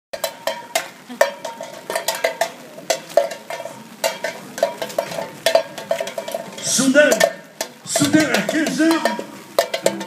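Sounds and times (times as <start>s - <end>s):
tin can clattering on asphalt: 0.2s - 10.0s.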